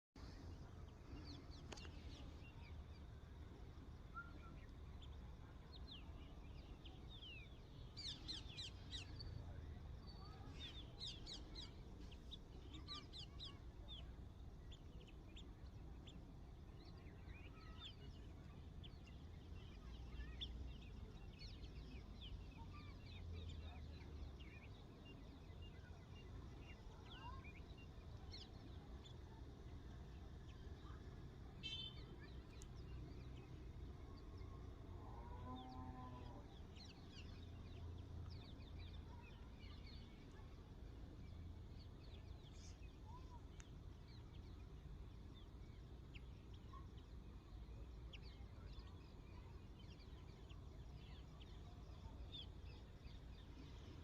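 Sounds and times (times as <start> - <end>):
faint low rumble: 0.2 - 54.0.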